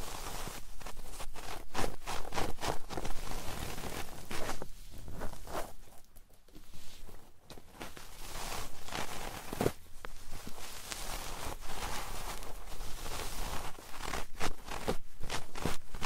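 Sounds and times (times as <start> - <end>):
rustling and scratching: 0.0 - 16.0.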